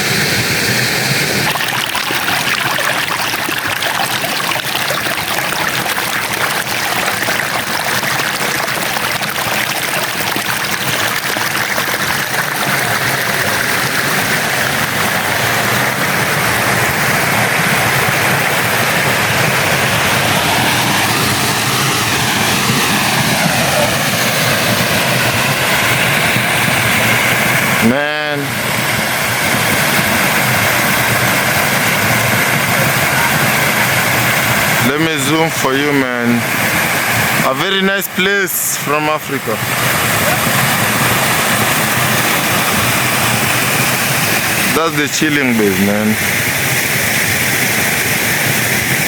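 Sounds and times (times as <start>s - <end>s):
rushing stream water: 0.0s - 49.0s
waterfall: 0.0s - 49.0s.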